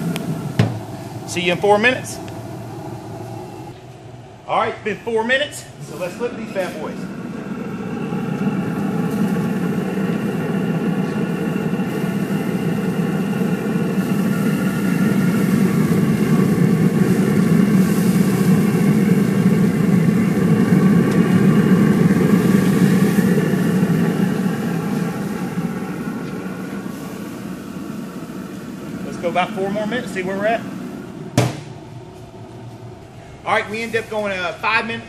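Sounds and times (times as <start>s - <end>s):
grill fan rushing: 0.0s - 35.0s
steady whining tones: 0.0s - 35.0s.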